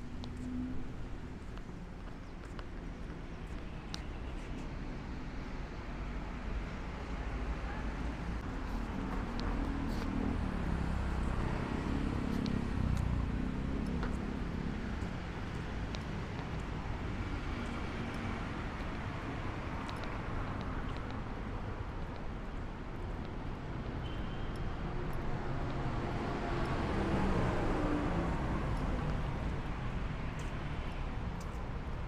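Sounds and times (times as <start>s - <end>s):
cars passing: 0.0s - 24.0s, 24.6s - 32.0s.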